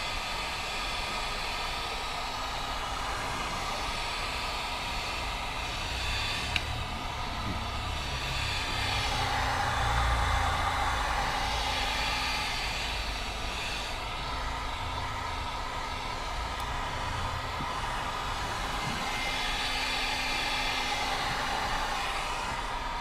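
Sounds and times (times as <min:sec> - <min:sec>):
heat gun blowing: 0:00.0 - 0:23.0.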